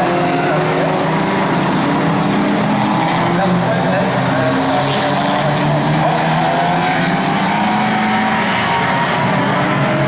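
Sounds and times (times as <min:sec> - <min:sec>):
racing car engines: 0:00.0 - 0:10.0.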